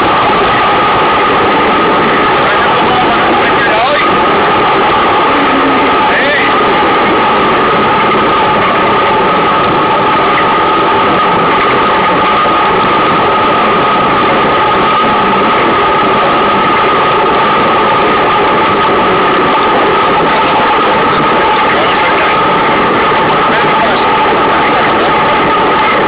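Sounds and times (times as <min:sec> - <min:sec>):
two-tone hum: 0:00.0 - 0:26.0
wind and road noise: 0:00.0 - 0:26.0.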